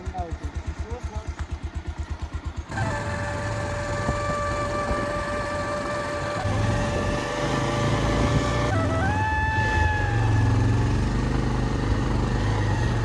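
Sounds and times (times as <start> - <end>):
constant high whine: 0.0 - 11.0
motorcycle engine: 0.0 - 13.0.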